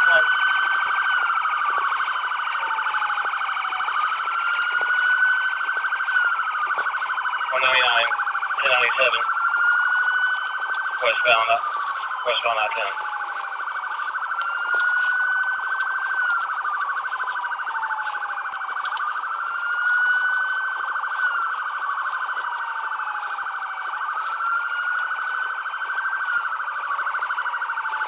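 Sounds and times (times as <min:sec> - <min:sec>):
fast-pulsing siren tone: 0:00.0 - 0:28.0
wailing police siren: 0:00.0 - 0:28.0.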